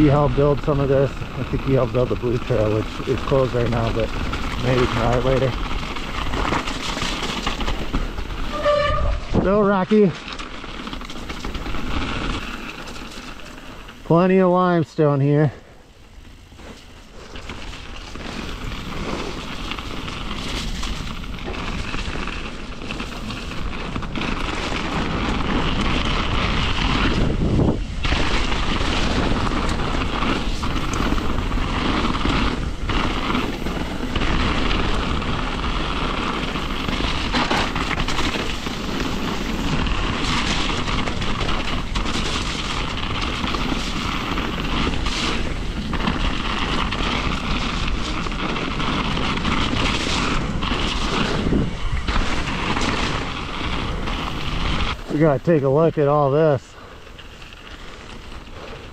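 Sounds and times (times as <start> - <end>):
bike tyres rolling over dirt trail: 0.0 - 58.9
wind rushing over microphone: 0.0 - 58.9.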